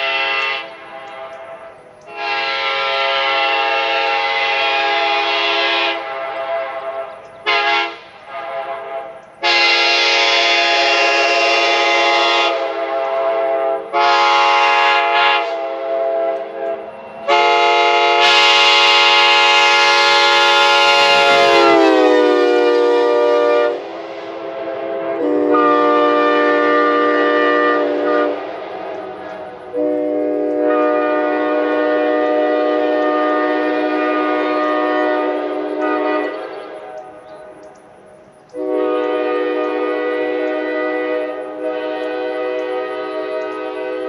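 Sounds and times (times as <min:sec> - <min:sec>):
train horn blasts: 0:00.0 - 0:37.8, 0:38.5 - 0:44.0.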